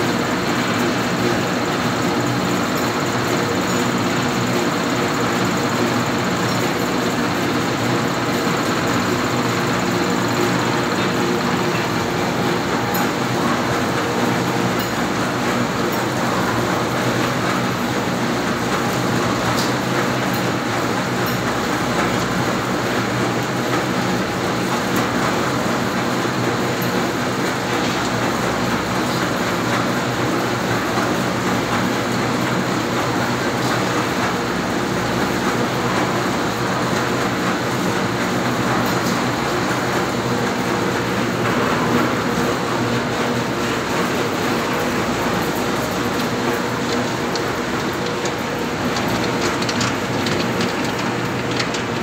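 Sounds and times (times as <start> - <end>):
mill machinery drone: 0.0 - 52.0.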